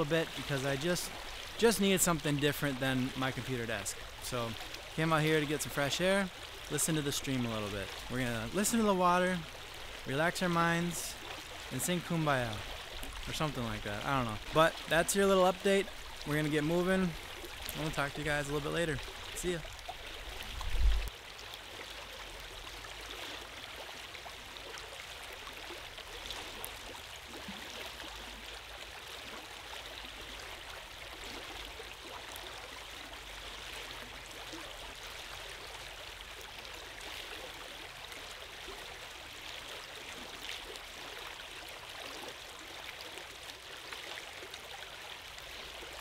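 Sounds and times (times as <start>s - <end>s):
stream running over rocks: 0.0s - 46.0s.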